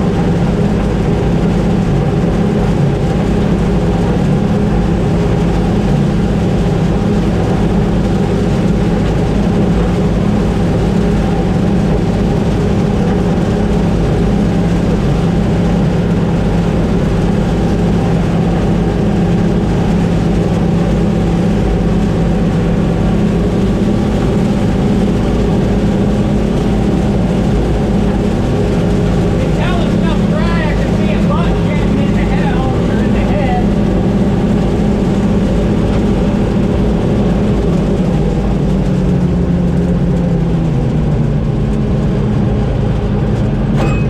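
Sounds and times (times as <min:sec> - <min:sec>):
combine harvester drone: 0:00.0 - 0:44.0.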